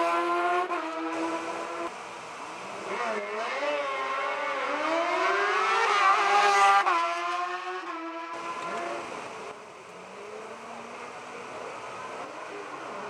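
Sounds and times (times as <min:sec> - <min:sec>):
distant engine: 0:00.0 - 0:13.0
race car engine accelerating: 0:00.0 - 0:13.0.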